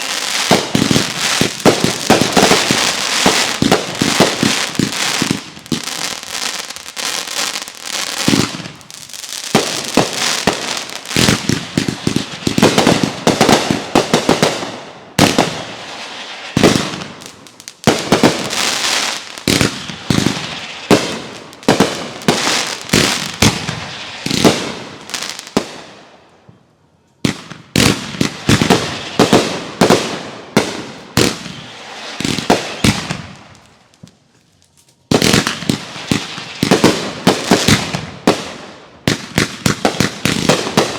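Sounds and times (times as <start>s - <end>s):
fireworks bangs and crackling: 0.0s - 26.6s, 27.2s - 40.9s.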